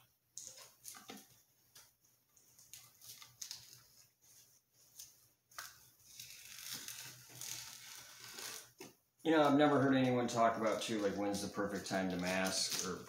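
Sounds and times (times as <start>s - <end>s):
gloved hands rustling and scraping: 0.0s - 13.0s.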